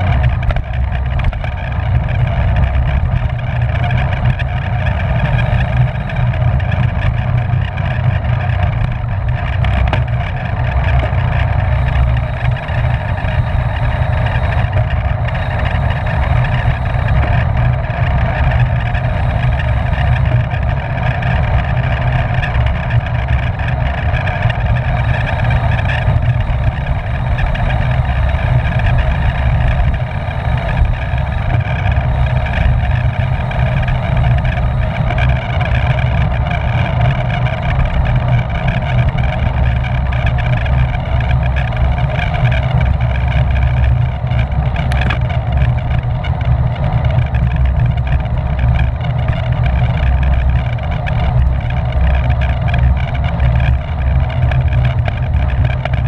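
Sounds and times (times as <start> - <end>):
bike rolling hum: 0.0 - 56.0
wind rushing on microphone: 0.0 - 56.0.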